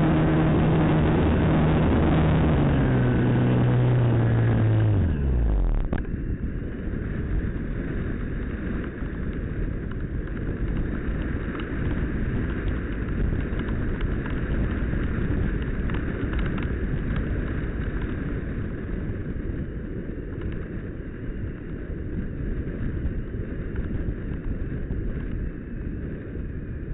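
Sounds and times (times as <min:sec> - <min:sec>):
wind rushing over camera: 0:00.0 - 0:26.9.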